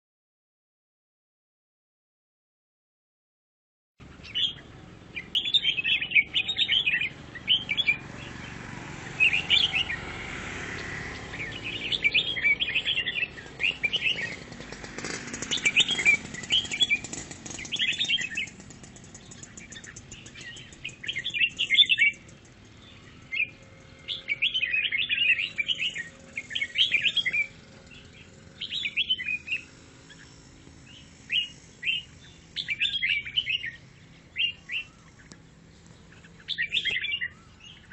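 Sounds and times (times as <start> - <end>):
bird singing chattering phrases: 4.0 - 37.9.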